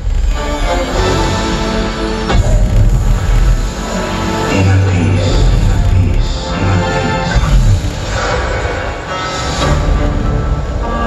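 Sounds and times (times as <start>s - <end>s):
soundtrack music over loudspeakers: 0.0s - 11.0s.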